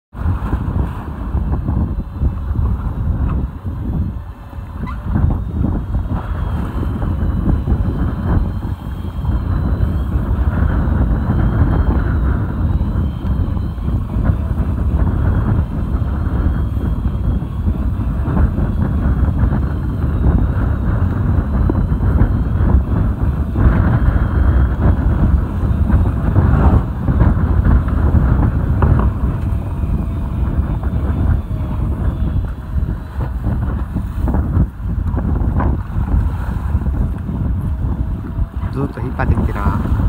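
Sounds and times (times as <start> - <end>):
choppy sea water rushing: 0.1 - 40.0
wind buffeting microphone: 0.1 - 40.0
faint thin whine: 0.9 - 40.0.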